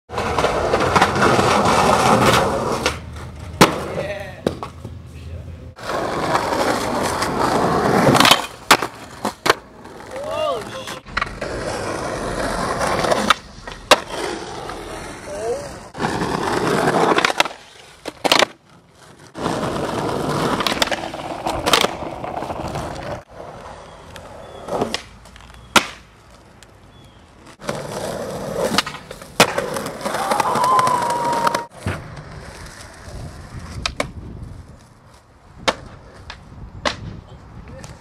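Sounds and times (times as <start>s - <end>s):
skateboard popping and landing clacks: 0.1s - 5.0s, 5.8s - 14.9s, 15.9s - 26.7s, 27.4s - 38.0s
skateboard wheels on rough concrete: 0.1s - 38.0s.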